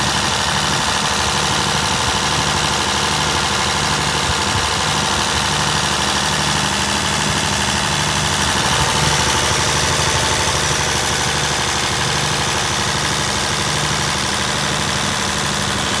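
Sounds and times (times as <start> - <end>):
diesel generator engine running: 0.0 - 16.0.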